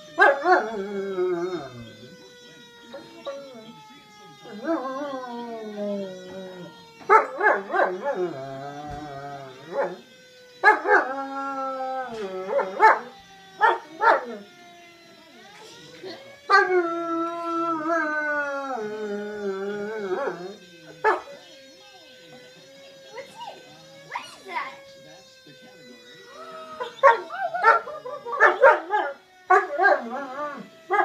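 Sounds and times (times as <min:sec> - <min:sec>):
dog howling: 0:00.0 - 0:14.6, 0:15.3 - 0:21.5, 0:26.3 - 0:31.0
fire truck siren: 0:00.0 - 0:31.0.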